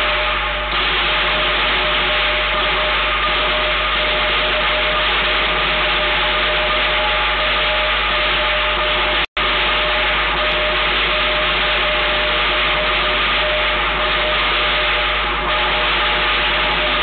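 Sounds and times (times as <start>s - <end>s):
loud steady hiss: 0.0s - 17.0s.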